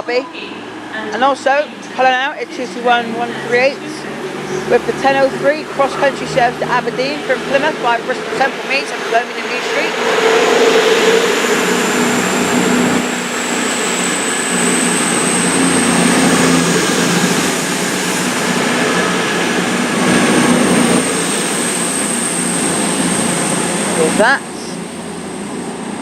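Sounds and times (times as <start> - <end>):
diesel train engines accelerating: 0.0 - 26.0
thin high whine: 0.0 - 26.0.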